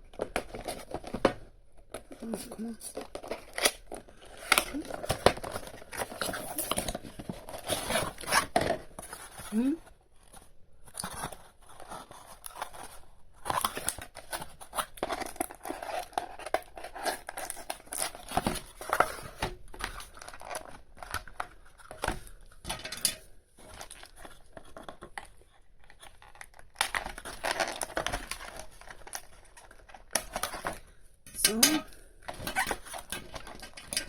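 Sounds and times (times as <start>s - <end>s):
packaging rustling: 0.0s - 34.0s
packaging clicks and snaps: 2.0s - 9.5s, 10.9s - 34.0s.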